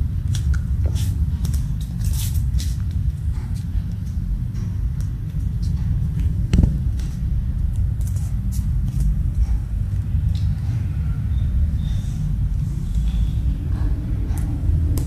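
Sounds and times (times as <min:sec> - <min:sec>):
low rumble: 0:02.9 - 0:15.0.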